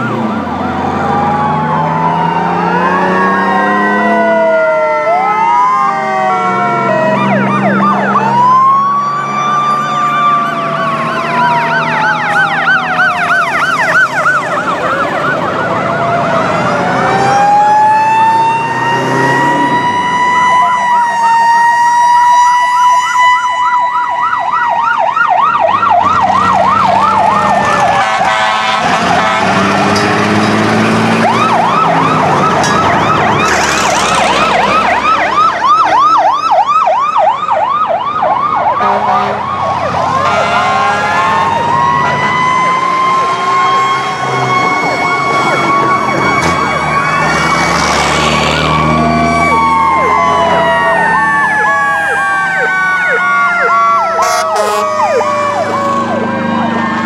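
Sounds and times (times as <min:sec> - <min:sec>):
fast warbling yelp sirens: 0:00.0 - 0:57.0
slow wailing siren sweeps: 0:00.0 - 0:57.0
truck engines rumbling: 0:00.0 - 0:57.0.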